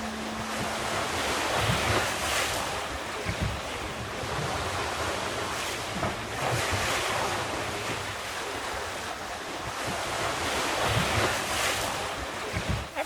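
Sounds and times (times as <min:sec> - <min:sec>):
sea water rushing along hull: 0:00.0 - 0:13.0
wind buffeting microphone: 0:00.0 - 0:13.0.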